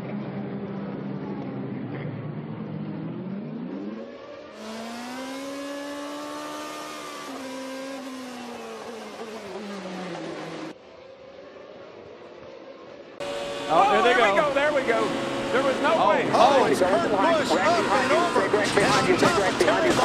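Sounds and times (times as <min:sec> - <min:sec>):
race car engine revving: 0:00.0 - 0:10.8, 0:13.2 - 0:20.0.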